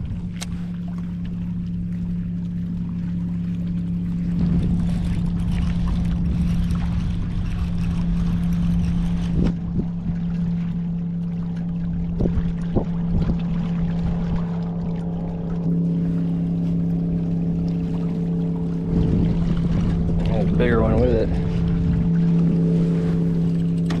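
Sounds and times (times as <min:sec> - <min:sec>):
boat motor humming: 0:00.0 - 0:24.0
water noise: 0:00.0 - 0:24.0.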